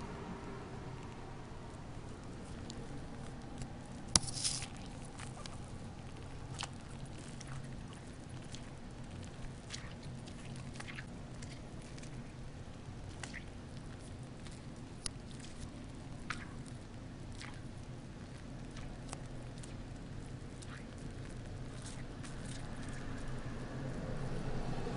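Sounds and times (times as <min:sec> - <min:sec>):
faint low hum: 0:00.0 - 0:24.9
small water splashes: 0:01.0 - 0:17.9, 0:18.5 - 0:24.9.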